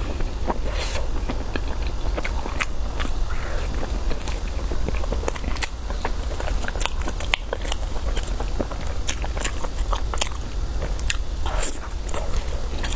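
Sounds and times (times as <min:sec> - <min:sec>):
biting and chewing: 0:00.0 - 0:12.9.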